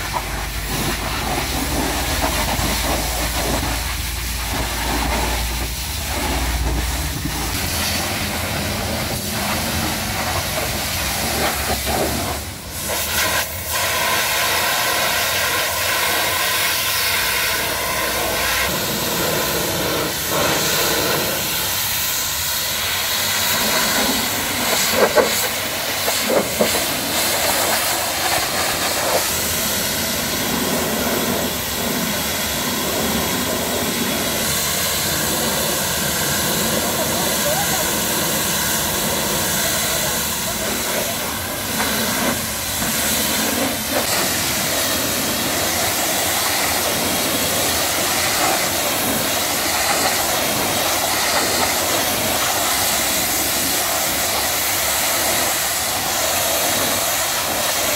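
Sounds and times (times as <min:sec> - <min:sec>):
pressure washer spraying water: 0:00.0 - 0:57.9.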